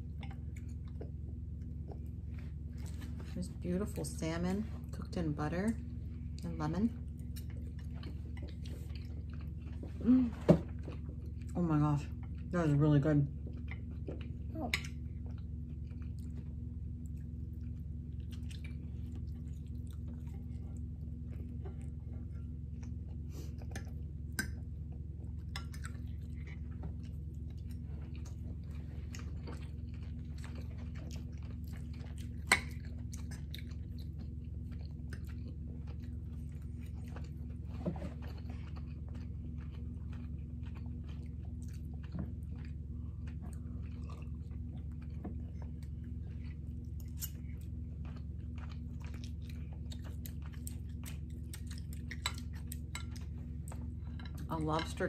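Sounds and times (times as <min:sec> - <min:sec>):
low hum: 0:00.0 - 0:55.0
chewing mouth sounds: 0:06.3 - 0:10.1, 0:13.3 - 0:54.5.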